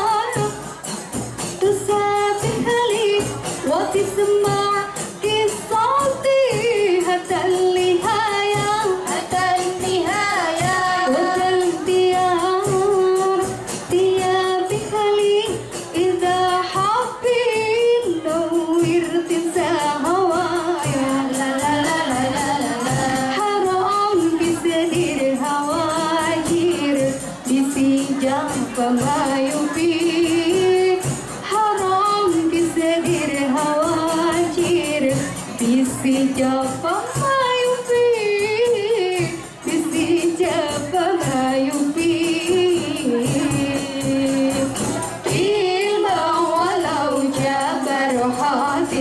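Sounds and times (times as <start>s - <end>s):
frame drums and jingles: 0.0s - 49.0s
woman singing into microphone: 0.0s - 49.0s.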